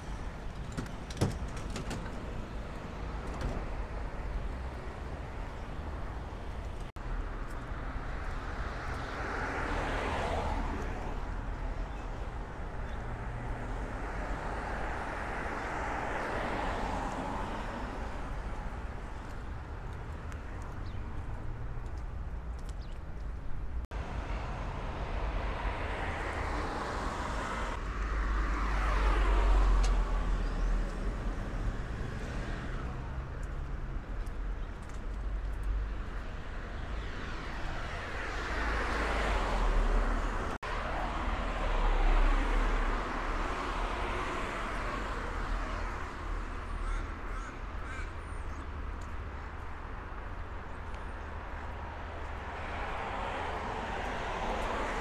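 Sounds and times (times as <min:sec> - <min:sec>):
cars passing: 0:00.0 - 0:55.0.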